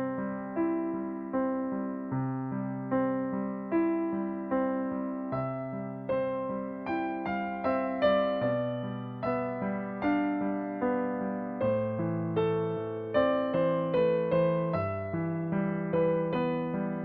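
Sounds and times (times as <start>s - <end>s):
gentle solo piano piece: 0.0s - 17.0s.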